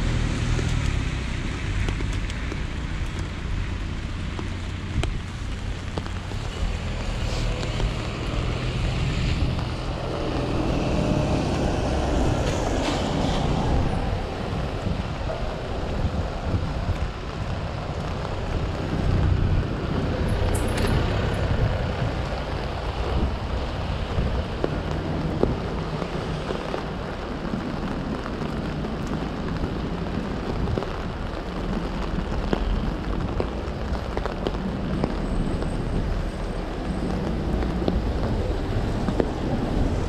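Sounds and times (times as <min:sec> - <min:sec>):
rain drops ticking on umbrella: 0:00.0 - 0:40.0.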